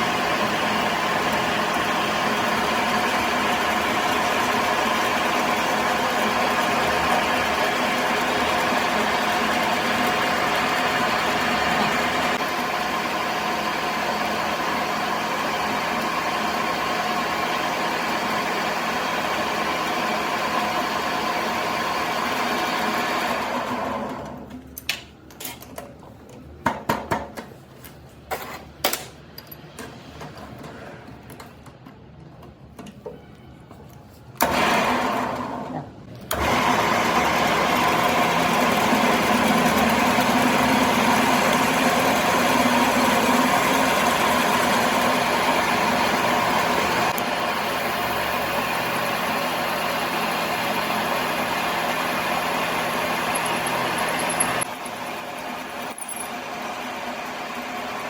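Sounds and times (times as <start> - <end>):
workshop machine motor running: 0.0 - 24.5, 34.4 - 58.0.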